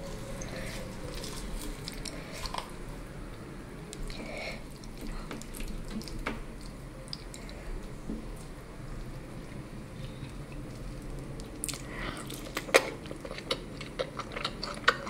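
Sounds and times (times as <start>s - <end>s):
wet chewing: 0.0s - 2.9s, 3.9s - 9.2s, 10.0s - 15.0s.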